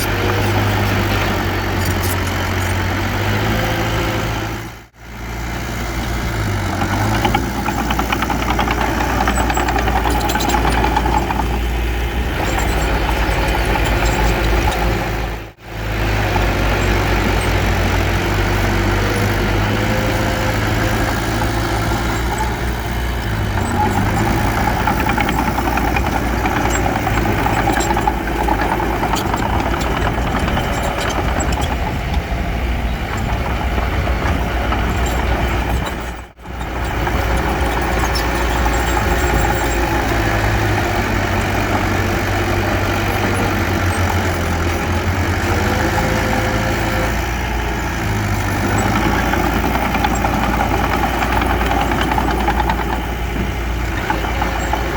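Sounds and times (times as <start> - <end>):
heavy diesel machinery engine: 0.0 - 54.9.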